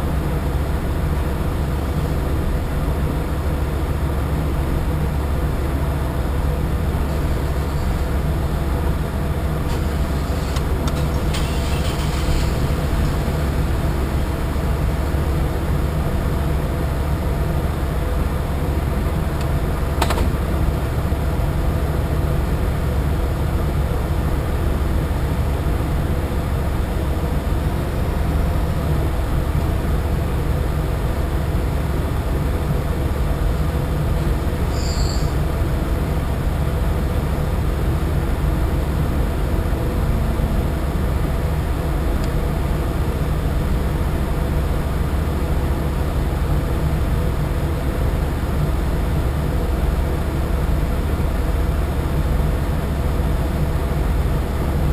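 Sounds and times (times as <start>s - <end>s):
boat engine humming: 0.0s - 54.9s.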